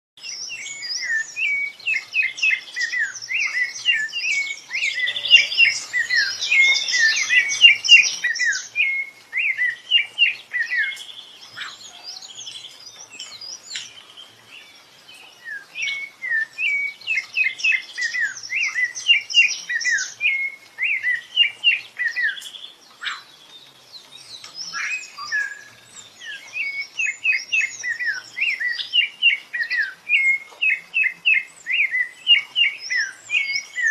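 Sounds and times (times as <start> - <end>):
thrush singing whistled notes: 0.2 - 33.9.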